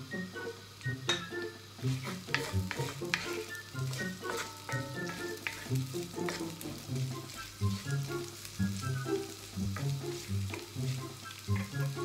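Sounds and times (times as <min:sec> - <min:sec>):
background music: 0:00.0 - 0:12.0
onions sizzling in oil: 0:00.0 - 0:12.0
wooden spatula scraping a pan: 0:01.8 - 0:12.0.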